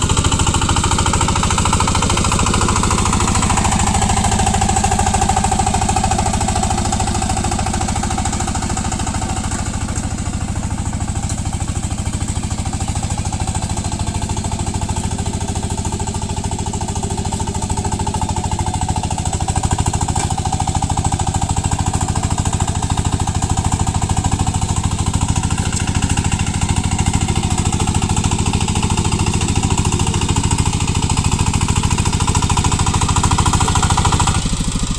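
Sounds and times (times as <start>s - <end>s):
diesel engine chugging: 0.0s - 34.9s.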